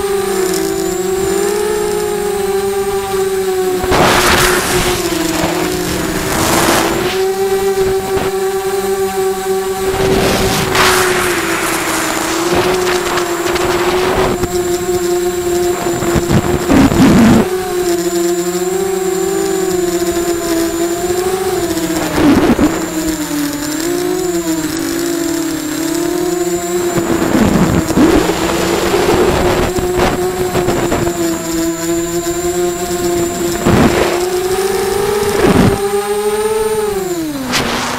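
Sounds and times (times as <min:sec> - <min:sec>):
quadcopter motors whining: 0:00.0 - 0:37.9
rushes of wind: 0:00.3 - 0:37.9.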